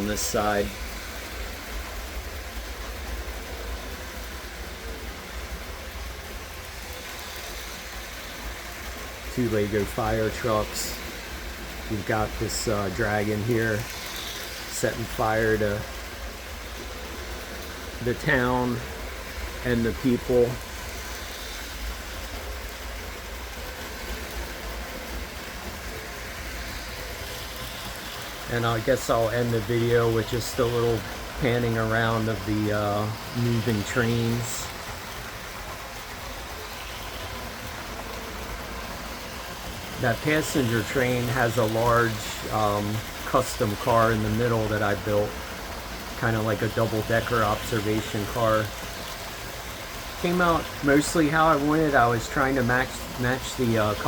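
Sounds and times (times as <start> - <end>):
toy electric trains rumbling: 0.0 - 54.0.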